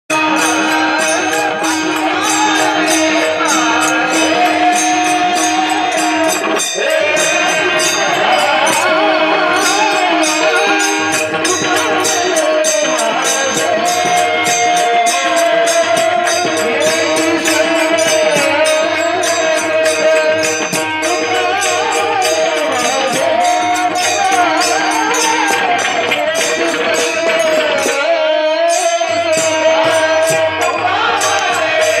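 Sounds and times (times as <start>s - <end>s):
hand drum: 0.1s - 32.0s
person singing devotional song: 0.1s - 32.0s.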